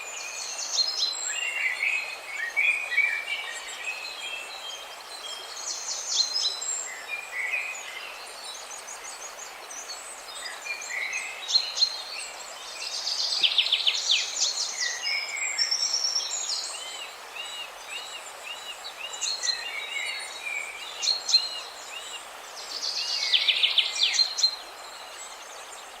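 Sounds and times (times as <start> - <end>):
rushing water: 0.0 - 26.0
songbirds chirping and singing: 0.5 - 26.0.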